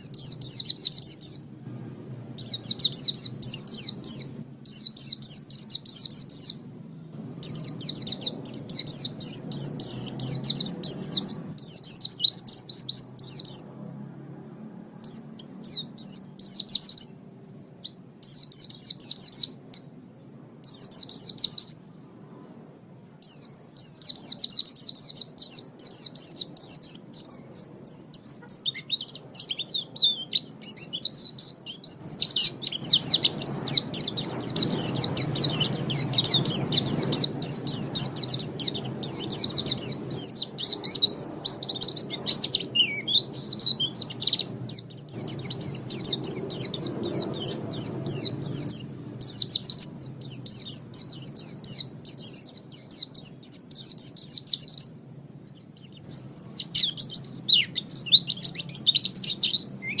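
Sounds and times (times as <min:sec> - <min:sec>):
bird twittering song: 0:00.0 - 1:00.0.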